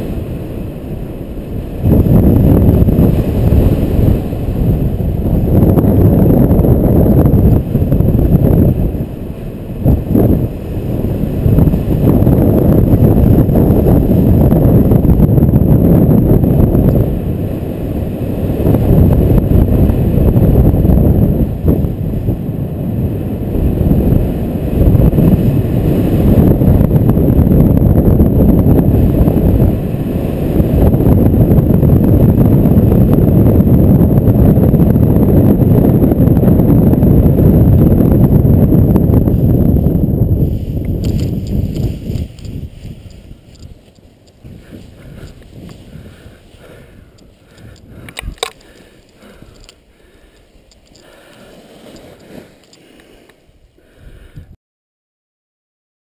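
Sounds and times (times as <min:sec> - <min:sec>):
wind buffeting microphone: 0:00.0 - 0:54.6.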